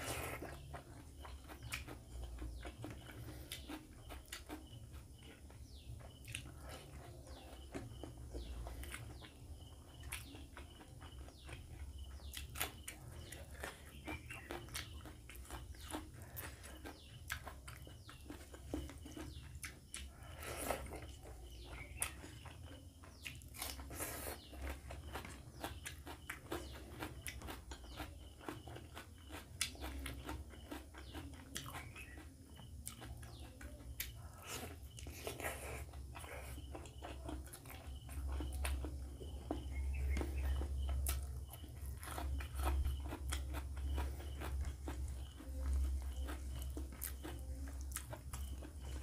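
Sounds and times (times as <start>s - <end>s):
person chewing: 0.0s - 49.0s
steady low hum: 0.0s - 49.0s.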